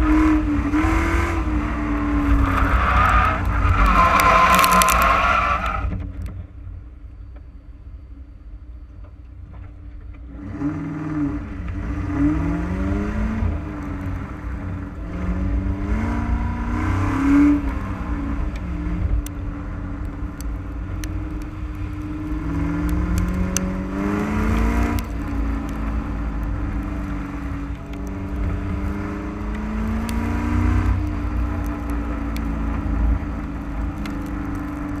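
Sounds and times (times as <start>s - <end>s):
car engine revving: 0.0s - 5.9s, 10.3s - 35.0s
wind and road rumble: 0.0s - 35.0s.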